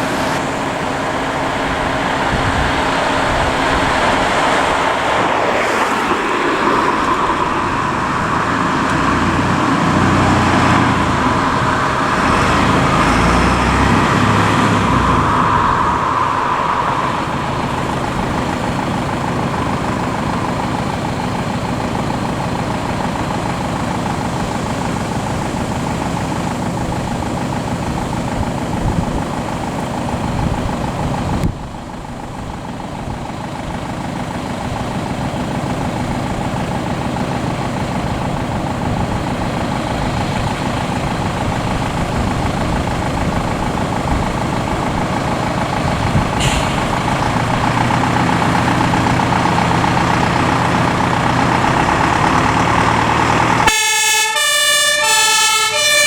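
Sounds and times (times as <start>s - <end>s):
diesel engines rumbling: 0.0s - 56.0s.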